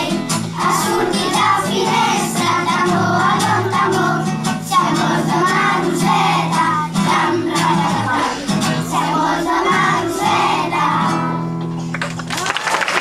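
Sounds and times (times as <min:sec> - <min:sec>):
children's choir singing: 0:00.0 - 0:11.6.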